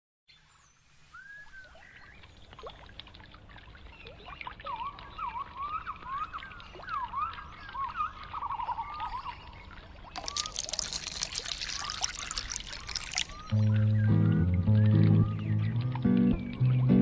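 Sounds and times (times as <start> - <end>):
water trickling and bubbling: 0.5 - 17.0.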